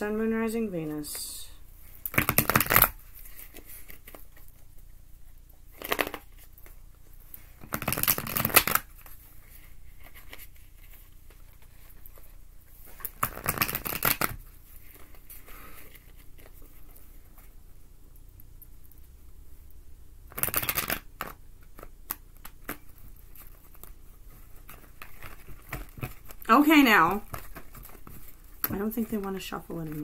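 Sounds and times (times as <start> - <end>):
cards being riffle-shuffled: 2.0 - 4.6, 5.7 - 17.5, 20.3 - 30.0.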